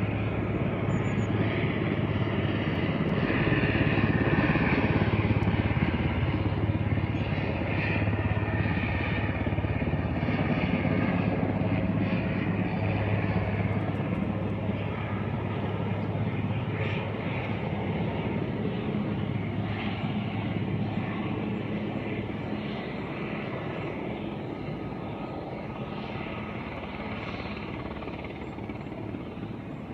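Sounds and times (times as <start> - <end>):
helicopter rotor and engine drone: 0.0 - 29.9.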